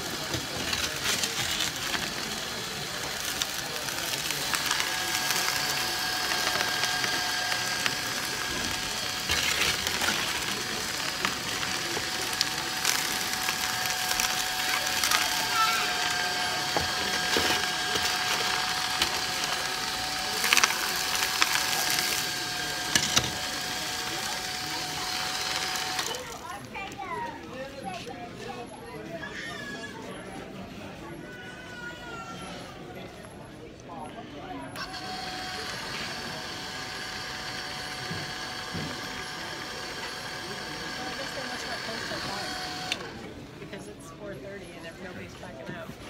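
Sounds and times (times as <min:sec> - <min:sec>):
hubbub of busy hall: 0:00.0 - 0:46.0.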